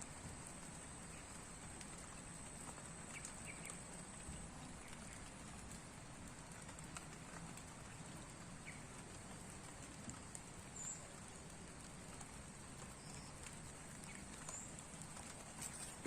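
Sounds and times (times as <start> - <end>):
light rain hiss: 0.0 - 16.0
raindrops ticking: 0.0 - 16.0.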